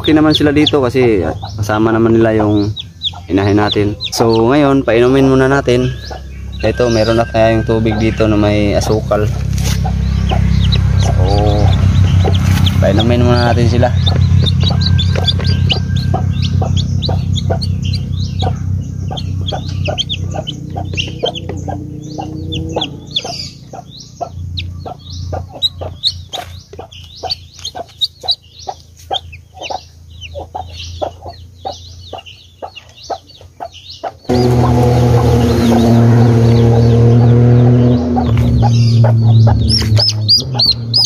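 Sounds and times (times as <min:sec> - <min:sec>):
chicks peeping: 0:00.0 - 0:41.0.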